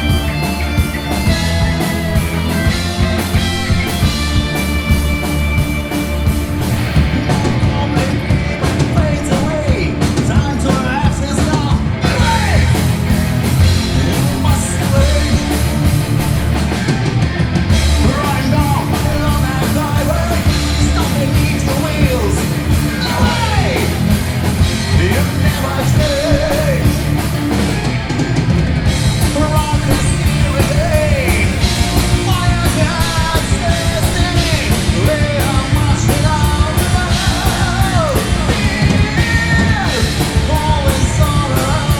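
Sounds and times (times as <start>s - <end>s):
person singing: 0.0s - 16.3s, 17.8s - 24.1s, 24.8s - 27.2s, 29.2s - 41.9s
rock band playing: 0.0s - 41.9s.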